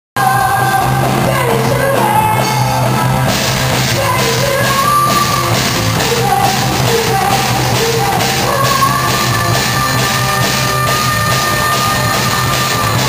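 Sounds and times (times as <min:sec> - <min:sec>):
live rock band playing: 0:00.2 - 0:13.0.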